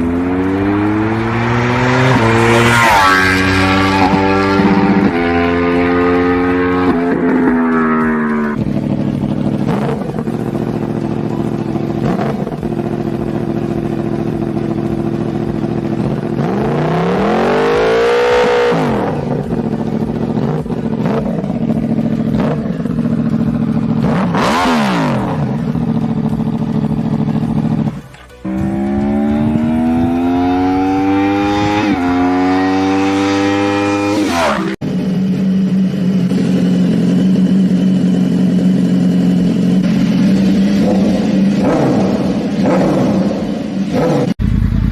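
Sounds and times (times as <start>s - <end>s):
gear changes: 0.0s - 44.9s
motorcycle engines revving: 0.0s - 44.9s.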